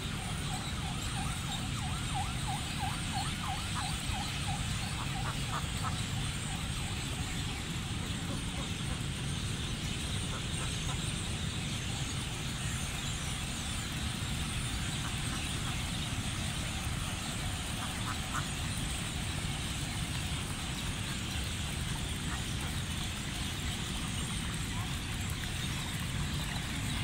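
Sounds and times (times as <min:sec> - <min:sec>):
low rumble and hiss: 0:00.0 - 0:27.0.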